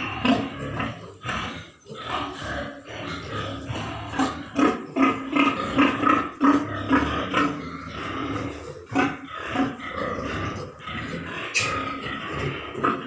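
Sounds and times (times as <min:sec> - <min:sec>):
pig grunting: 0:00.0 - 0:13.0.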